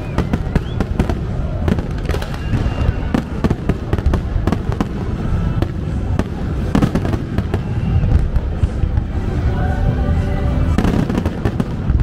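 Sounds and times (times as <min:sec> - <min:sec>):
continuous low rumble: 0:00.0 - 0:12.0
fireworks bangs: 0:00.0 - 0:12.0.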